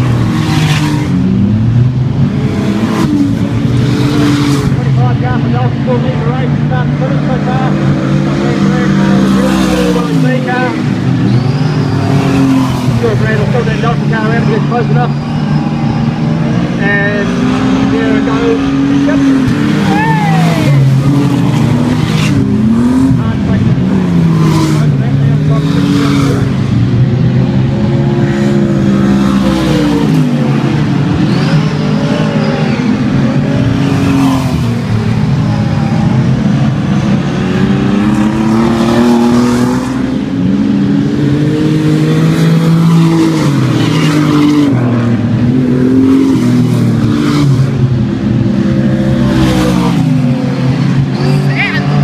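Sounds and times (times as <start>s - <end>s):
race car engines: 0.0s - 52.0s.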